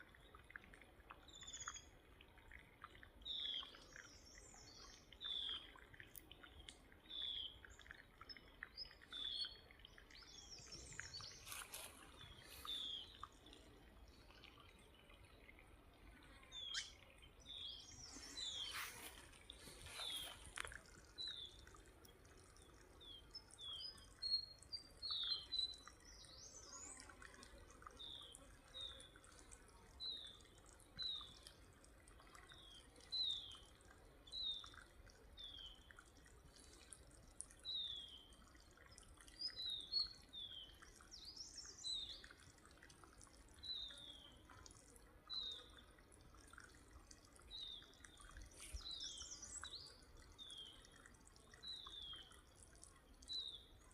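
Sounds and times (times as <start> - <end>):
water trickling from pipe: 0.0 - 53.9.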